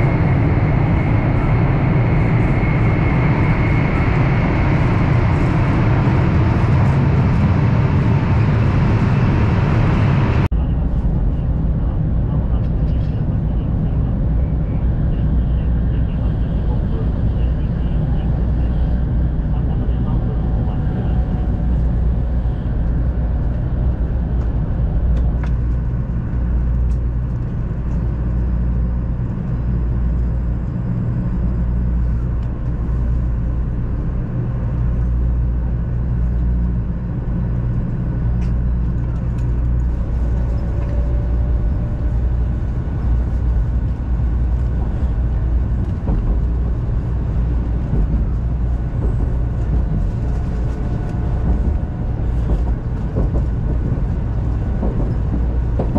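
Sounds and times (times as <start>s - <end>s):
train running low rumble: 0.0s - 55.9s.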